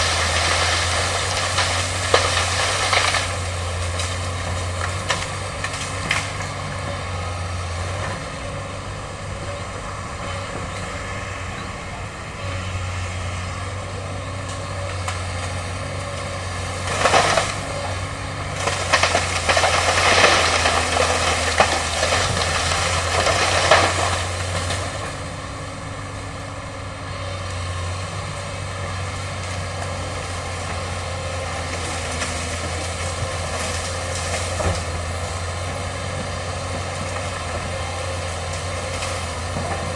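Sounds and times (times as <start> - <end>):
bamboo crunching: 0.0 - 8.4, 13.7 - 39.9
excavator diesel engine running: 0.0 - 39.9.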